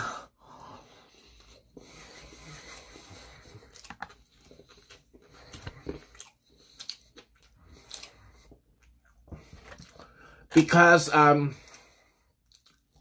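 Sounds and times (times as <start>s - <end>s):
person chewing: 1.2s - 10.5s, 11.6s - 13.0s.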